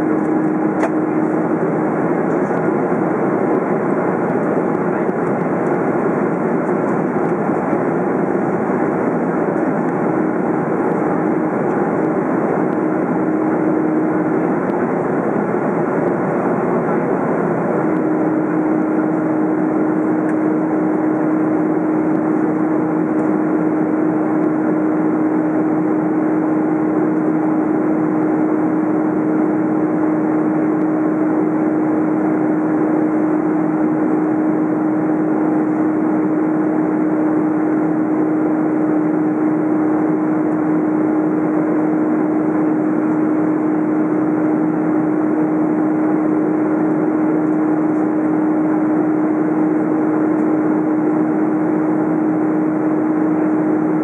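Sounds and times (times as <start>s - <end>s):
engine and airflow rush: 0.0s - 54.0s
steady hum: 0.0s - 54.0s.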